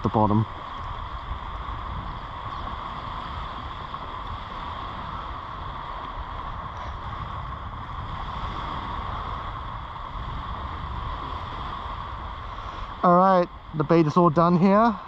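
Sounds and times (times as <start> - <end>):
surf hissing: 0.0 - 15.0
wind buffeting microphone: 0.0 - 15.0.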